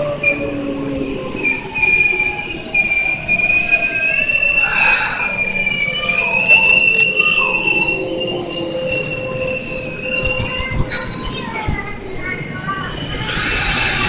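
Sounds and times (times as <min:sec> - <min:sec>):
train rolling rumble: 0:00.0 - 0:14.0
train wheels squealing: 0:00.0 - 0:14.0.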